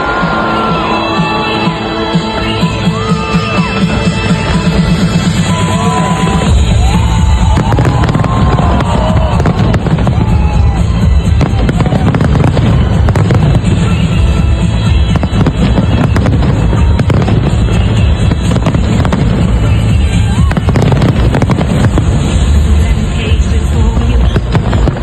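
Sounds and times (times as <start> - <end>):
fireworks bangs and crackles: 0.0 - 25.0
fireworks gliding whistles: 0.0 - 25.0
loud music: 0.0 - 25.0.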